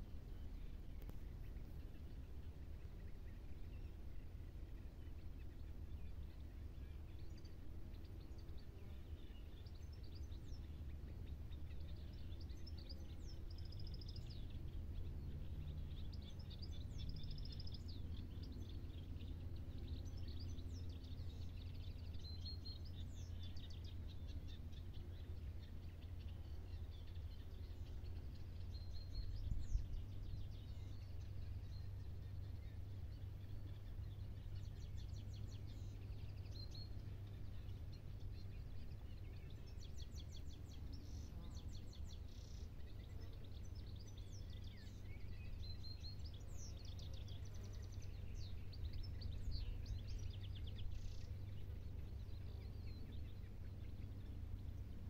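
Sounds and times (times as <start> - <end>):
songbirds chirping and trilling: 0.0 - 55.0
steady low rumble: 0.0 - 55.0.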